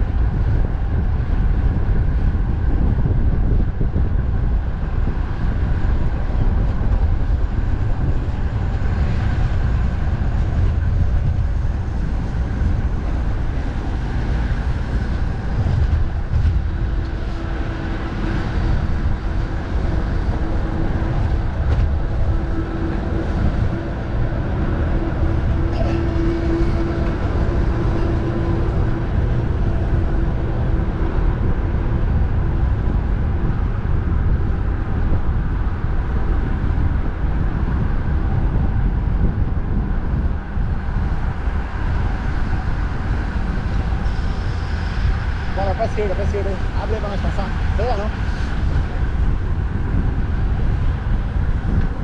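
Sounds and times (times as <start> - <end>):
expressway traffic rumble: 0.0 - 52.0
wind buffeting microphone: 0.0 - 52.0.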